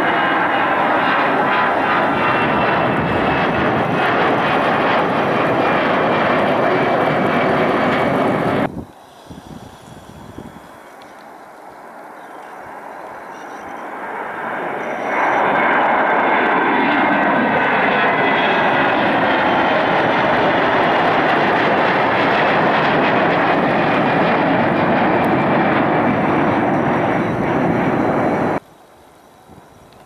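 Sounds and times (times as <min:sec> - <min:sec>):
jet airliner engines roaring: 0:00.0 - 0:30.0.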